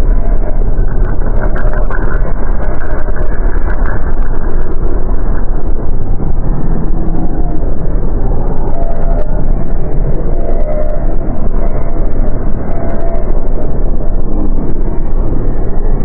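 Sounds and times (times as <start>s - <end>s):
dense low rumble: 0.0s - 16.0s
faint held tones: 0.0s - 16.0s.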